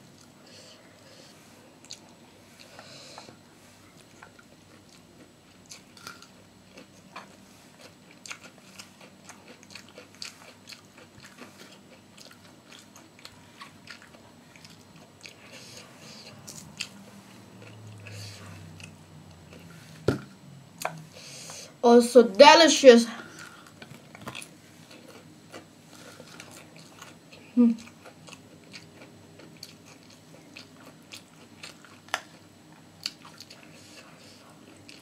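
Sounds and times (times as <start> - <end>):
person chewing crisp food: 1.0 - 20.0, 23.3 - 35.0.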